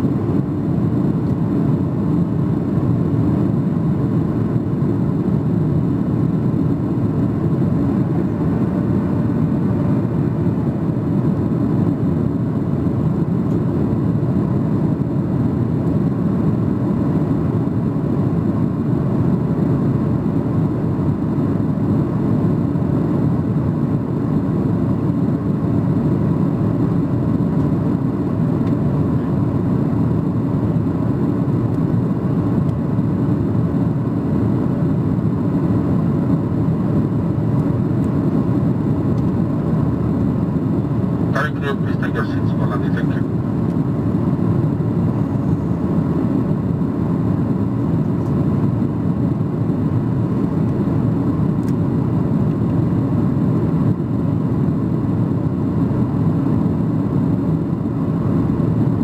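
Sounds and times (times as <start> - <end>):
airflow over fuselage: 0.0 - 59.0
jet engines droning: 0.0 - 59.0.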